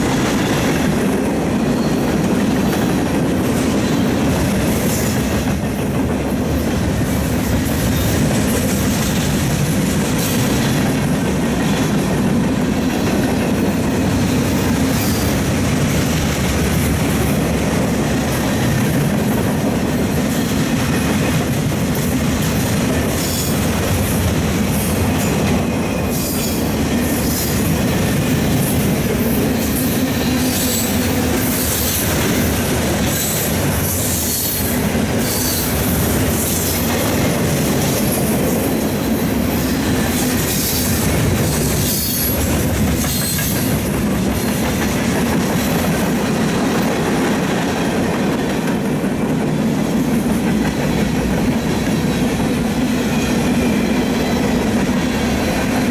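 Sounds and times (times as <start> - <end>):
train wheels rumbling and clattering: 0.0 - 55.9.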